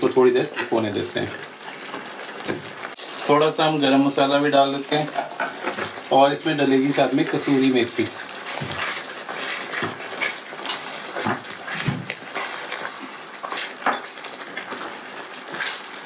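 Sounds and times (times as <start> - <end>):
thick gravy being stirred: 0.0 - 16.0.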